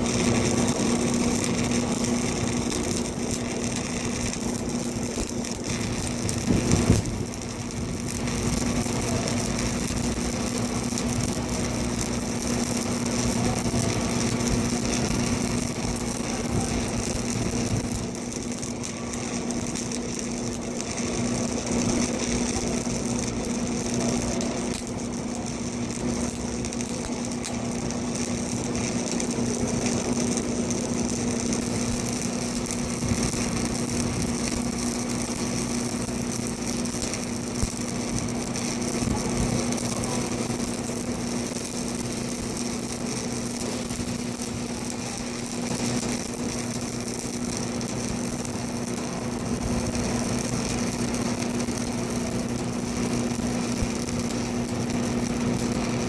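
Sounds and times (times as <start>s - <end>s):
arc welding crackling hiss: 0.0s - 56.0s
constant hum: 0.0s - 56.0s.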